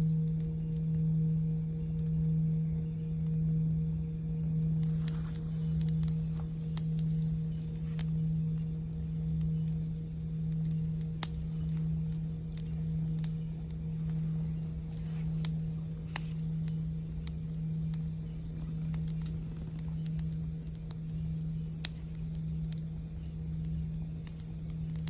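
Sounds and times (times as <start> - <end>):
campfire crackling and popping: 0.0 - 25.0
singing bowl humming: 0.0 - 25.0.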